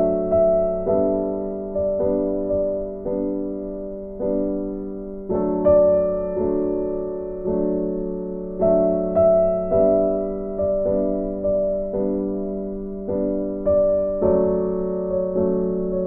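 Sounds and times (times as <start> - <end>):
soft keyboard chords: 0.0 - 16.0.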